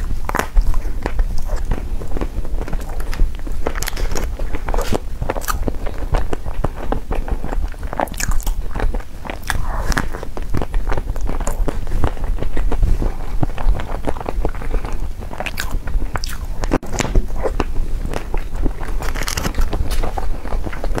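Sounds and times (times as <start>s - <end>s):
biting and chewing dessert: 0.0s - 21.0s
crisp crackles of chocolate shell: 0.2s - 21.0s.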